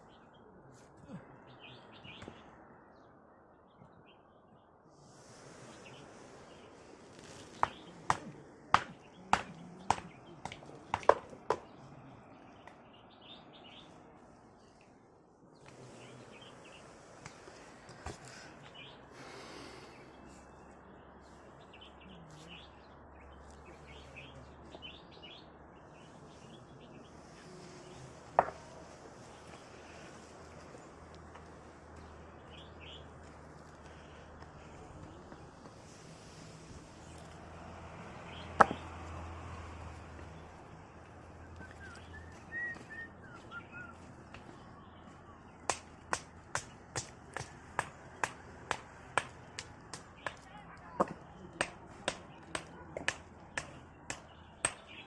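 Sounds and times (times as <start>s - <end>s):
faint outdoor background: 0.0s - 55.0s
small birds chirping: 0.0s - 55.0s.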